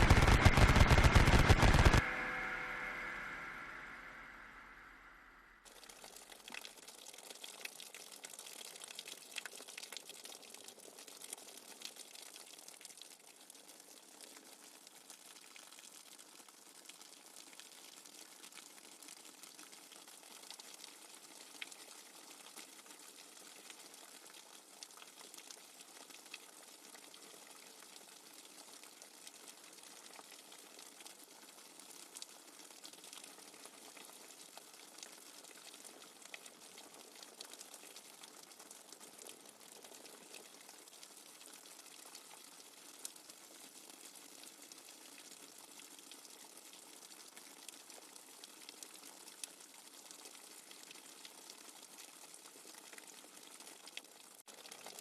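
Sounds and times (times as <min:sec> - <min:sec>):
crackles and ticks: 0:00.0 - 0:55.0.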